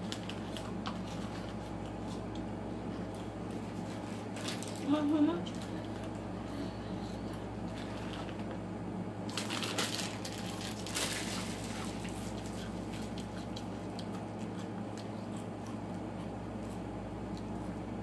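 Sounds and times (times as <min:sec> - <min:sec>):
snack crunching and crinkling: 0:00.0 - 0:06.3, 0:07.1 - 0:08.6, 0:09.2 - 0:18.0
steady low hum: 0:00.0 - 0:18.0.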